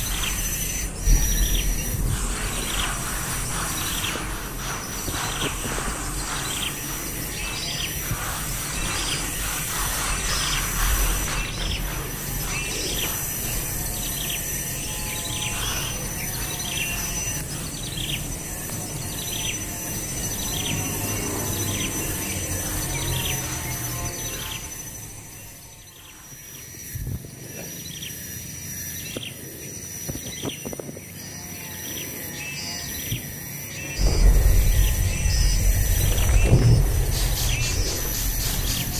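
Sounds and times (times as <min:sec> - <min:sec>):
insect whine: 0:00.0 - 0:38.9
outdoor background noise: 0:00.0 - 0:38.9.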